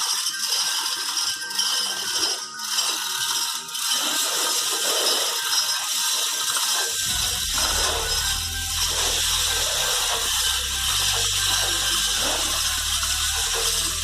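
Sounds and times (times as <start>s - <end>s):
metallic rattling and clicking of tools: 0.0s - 14.0s.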